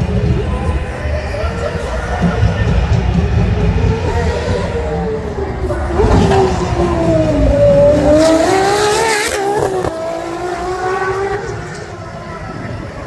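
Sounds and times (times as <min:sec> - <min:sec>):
race car engine at high revs: 0:01.7 - 0:12.8.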